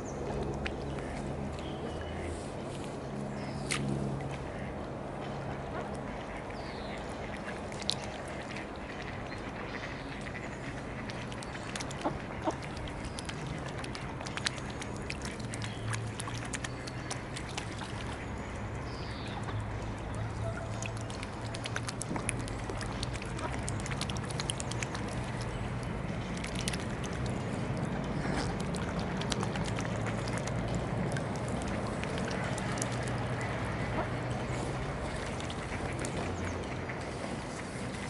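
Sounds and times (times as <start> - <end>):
low steady hum: 0.0 - 38.0
small water splashes and clicks: 0.0 - 38.0.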